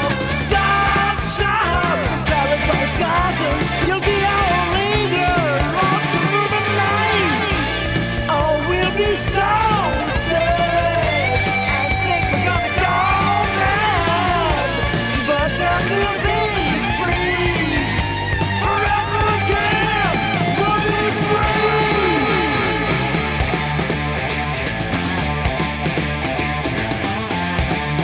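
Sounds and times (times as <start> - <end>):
bass and drums: 0.0 - 28.0
electric lead guitar: 0.0 - 28.0.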